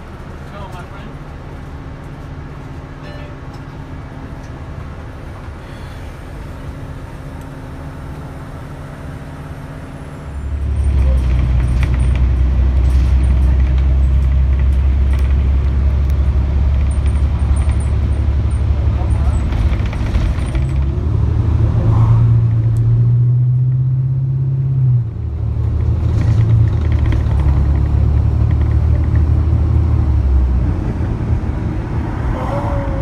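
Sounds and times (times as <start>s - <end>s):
bus engine rumble: 0.0s - 33.0s.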